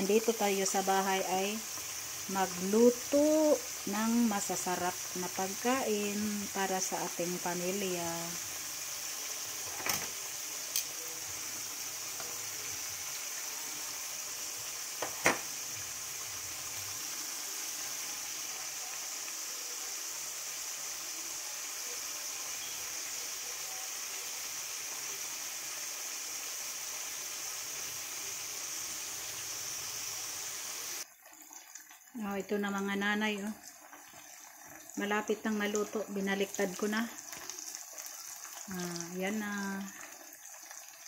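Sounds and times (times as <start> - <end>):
meat sizzling in hot oil: 0.0 - 41.0.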